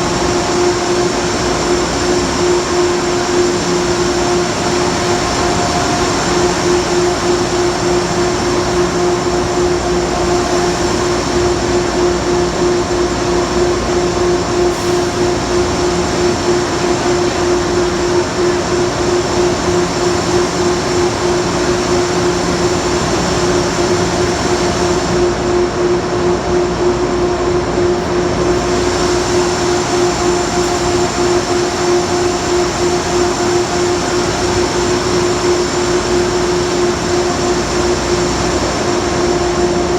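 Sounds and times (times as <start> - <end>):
electric train drone: 0.0 - 39.9
high whine: 0.0 - 39.9.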